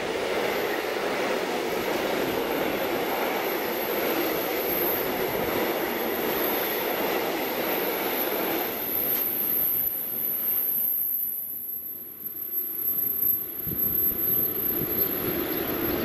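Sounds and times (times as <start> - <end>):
freight train rumbling past: 0.0 - 11.0, 12.8 - 16.0.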